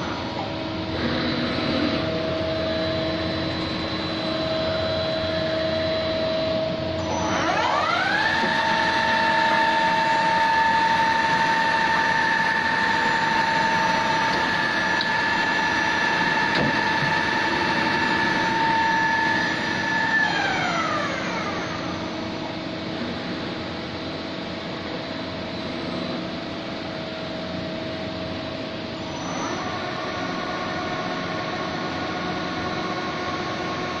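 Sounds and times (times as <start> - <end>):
lathe spindle whine: 0.0 - 34.0
machine running hum: 0.0 - 34.0.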